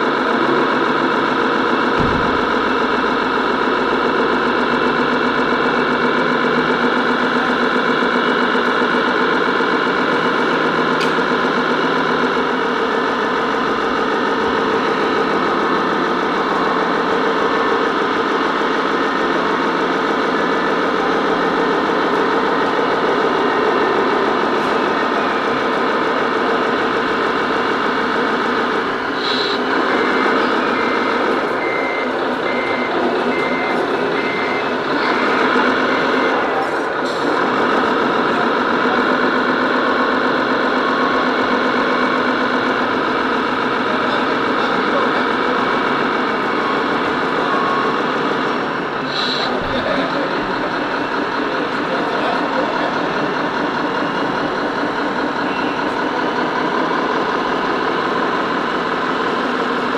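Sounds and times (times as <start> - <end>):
toy truck engine sound: 0.0 - 59.9
reversing beeper: 1.8 - 9.5, 10.1 - 36.6, 43.8 - 57.8.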